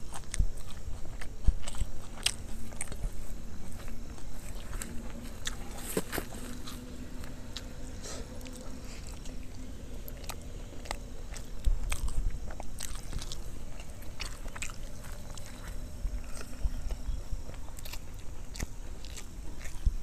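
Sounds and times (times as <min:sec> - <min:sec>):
close chewing and mouth clicks: 0:00.0 - 0:20.0.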